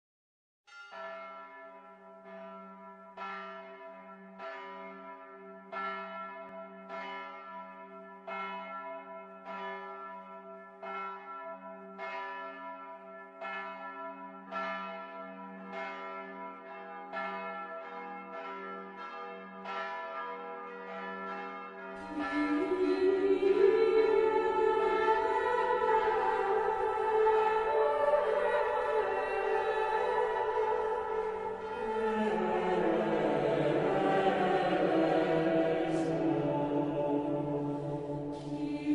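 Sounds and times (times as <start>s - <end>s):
church bells ringing: 0.7s - 38.9s.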